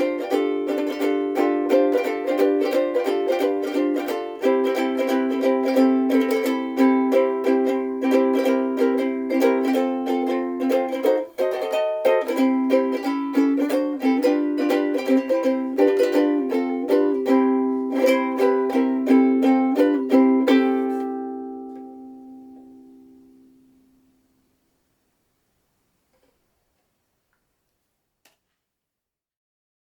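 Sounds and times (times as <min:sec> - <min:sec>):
ukulele strummed rhythmically: 0:00.0 - 0:24.2.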